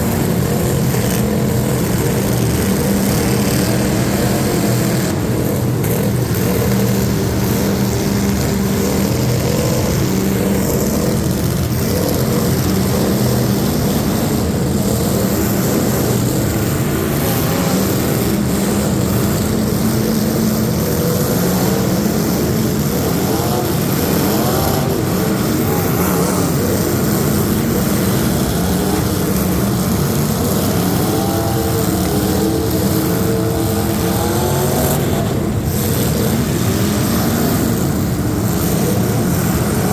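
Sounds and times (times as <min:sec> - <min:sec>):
truck engines running: 0:00.0 - 0:39.9.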